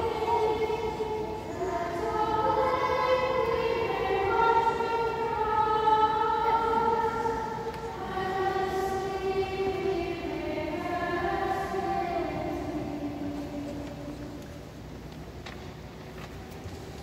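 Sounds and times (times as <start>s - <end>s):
choir singing plainchant: 0.0s - 14.4s.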